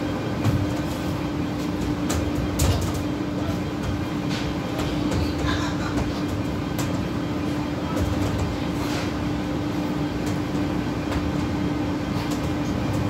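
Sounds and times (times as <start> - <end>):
kitchen ventilation hum: 0.0 - 13.0.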